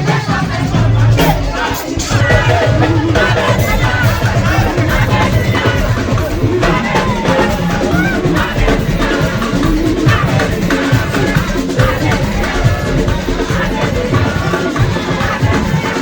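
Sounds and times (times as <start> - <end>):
thudding bass drum: 0.0 - 16.0
upbeat church band music: 0.0 - 16.0.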